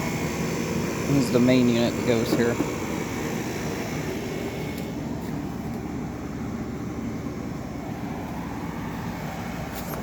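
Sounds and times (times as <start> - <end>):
air conditioner drone: 0.0 - 10.0.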